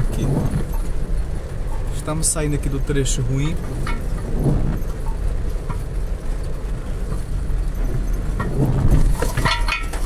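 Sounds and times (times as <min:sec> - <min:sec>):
knocks from bumpy road: 0:00.0 - 0:02.1, 0:02.8 - 0:10.0
engine and tyres rumbling: 0:00.0 - 0:10.0
rain on windscreen: 0:00.0 - 0:10.0.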